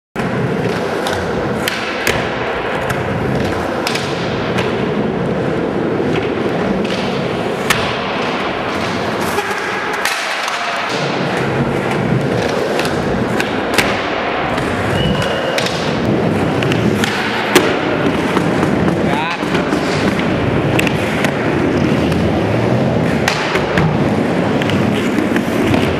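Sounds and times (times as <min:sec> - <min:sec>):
skateboard clacks: 0:00.2 - 0:25.9
skateboard wheels rolling on concrete: 0:00.2 - 0:25.9.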